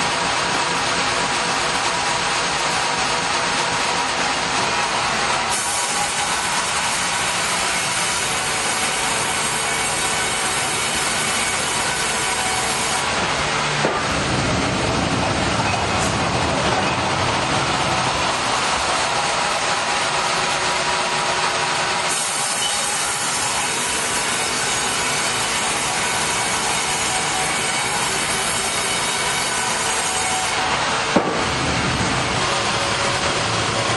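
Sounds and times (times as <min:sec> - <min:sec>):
saw cutting a log: 0:00.0 - 0:33.9
sawmill machinery running: 0:00.0 - 0:33.9.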